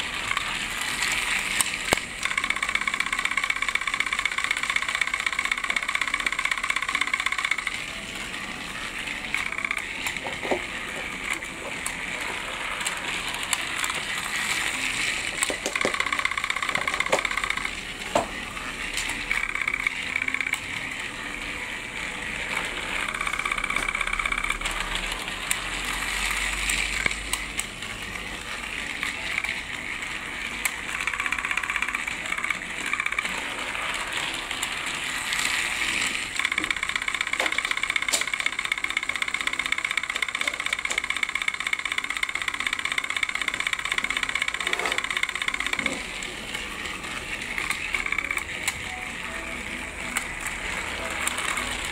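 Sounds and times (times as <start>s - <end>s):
toy train motor whirring: 0.0s - 51.9s
wheels clicking on plastic track: 0.0s - 51.9s.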